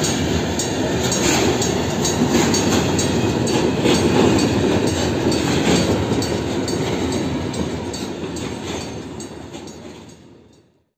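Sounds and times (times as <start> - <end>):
train wheels rumbling and clacking: 0.0 - 10.8.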